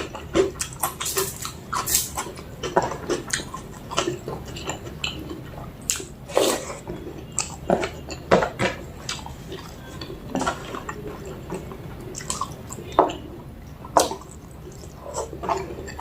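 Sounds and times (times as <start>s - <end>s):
chewing food: 0.0s - 16.0s.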